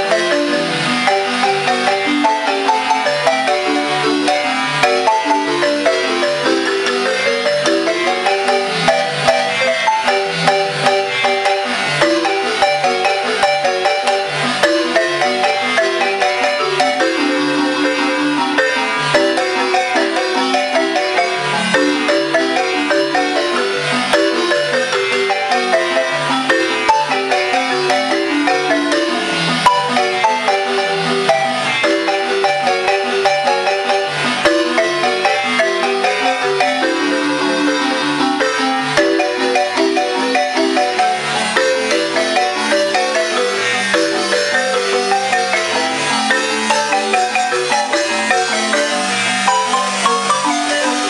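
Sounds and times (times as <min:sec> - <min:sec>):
marimba playing lively tune: 0:00.0 - 0:51.0.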